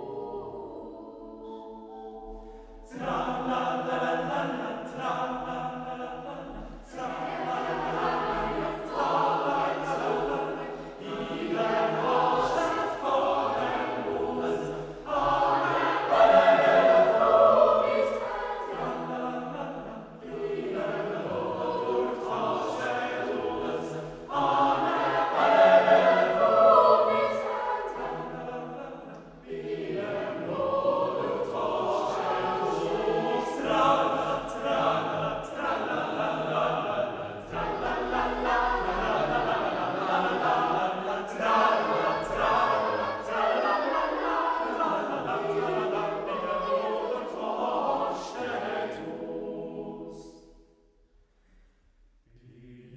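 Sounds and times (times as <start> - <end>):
boys' choir singing unaccompanied: 0.0 - 50.6.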